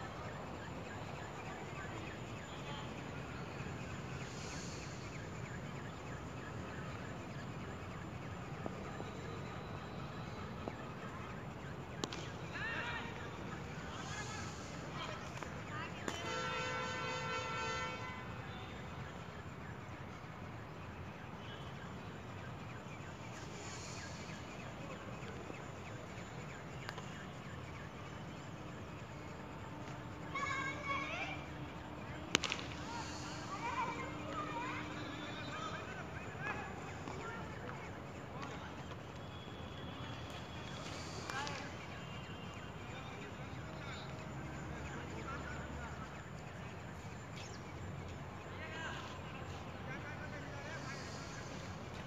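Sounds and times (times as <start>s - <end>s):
faint high chirps: 0.0s - 16.2s, 18.3s - 52.0s
outdoor background noise: 0.0s - 52.0s.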